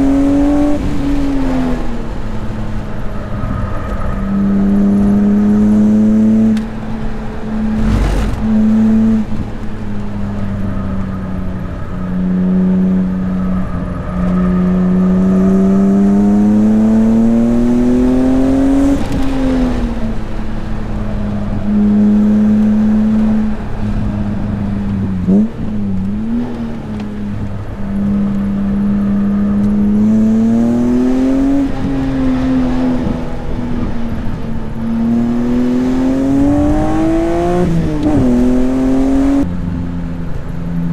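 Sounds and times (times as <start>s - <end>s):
race car engine accelerating: 0.0s - 39.5s.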